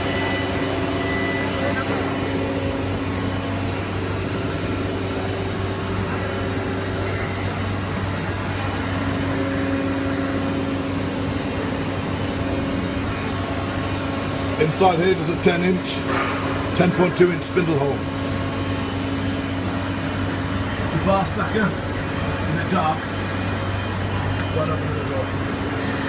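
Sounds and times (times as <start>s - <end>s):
shop machinery drone: 0.0s - 26.0s.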